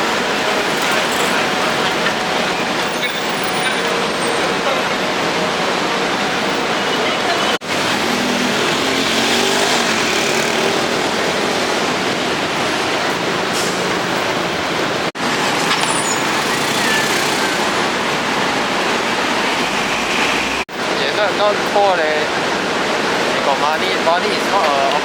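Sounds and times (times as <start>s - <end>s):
street traffic roar: 0.0s - 25.0s.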